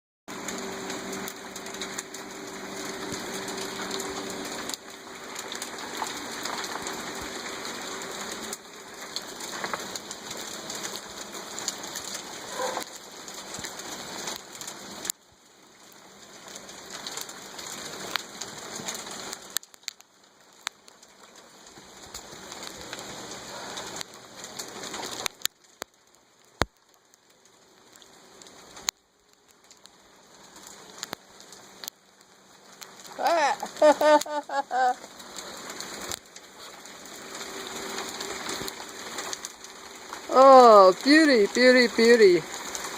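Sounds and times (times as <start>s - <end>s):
hail pattering: 0.3s - 42.9s.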